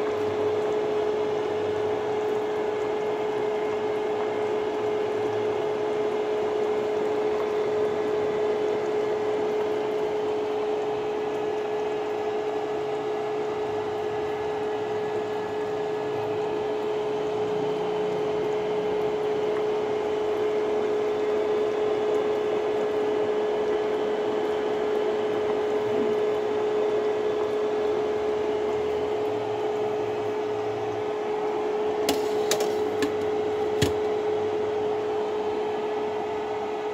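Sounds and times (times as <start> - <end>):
kitchen appliance hum: 0.0 - 36.9.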